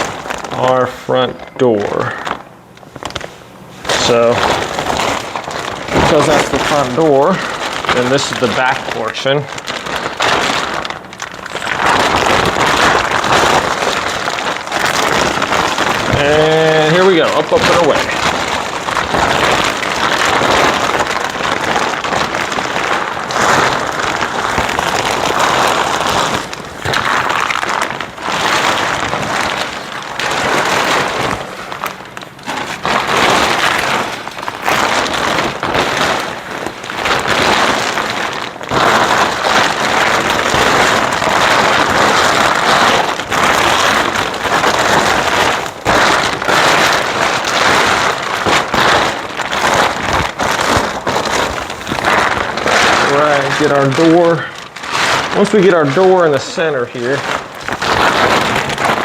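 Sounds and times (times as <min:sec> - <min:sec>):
plastic sheet rustling and crinkling: 0:00.0 - 0:59.0.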